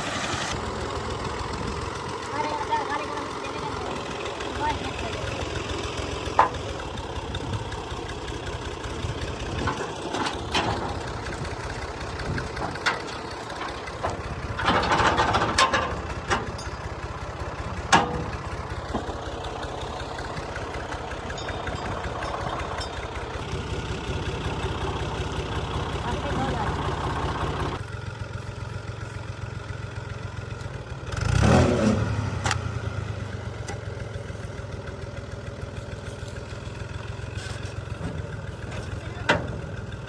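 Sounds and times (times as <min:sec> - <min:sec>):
combine harvester diesel engine running: 0:00.0 - 0:40.0
rattling: 0:00.5 - 0:27.8, 0:33.4 - 0:40.0.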